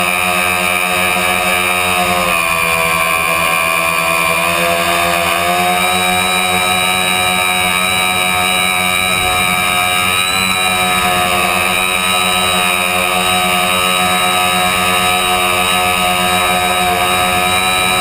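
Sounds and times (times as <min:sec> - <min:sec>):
drone motors and propellers whining: 0:00.0 - 0:18.0.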